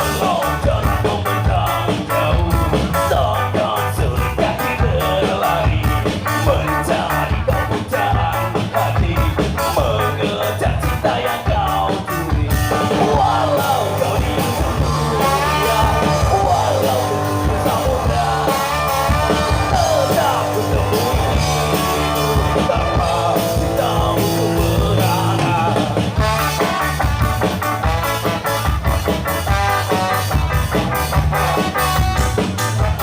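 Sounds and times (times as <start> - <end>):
person singing: 0.0 - 26.8
ska band playing live: 0.0 - 33.0.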